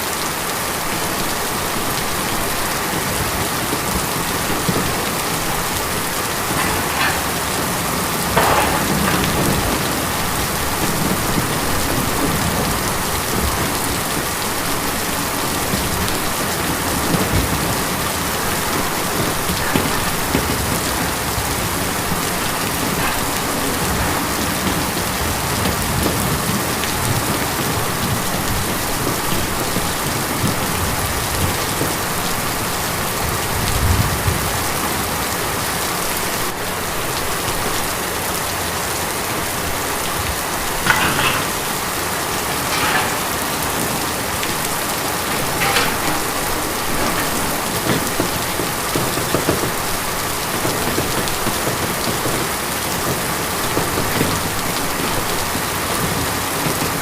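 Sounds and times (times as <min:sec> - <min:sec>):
heavy rain drumming on a tin roof: 0:00.0 - 0:57.0.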